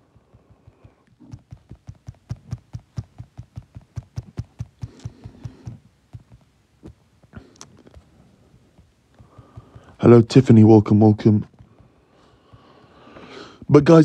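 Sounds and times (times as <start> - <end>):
rapid soft taps: 0.0 - 13.7.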